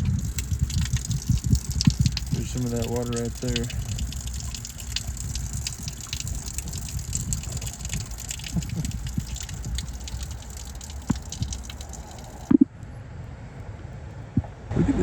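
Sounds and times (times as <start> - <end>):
spring water running and splashing: 0.0 - 12.5.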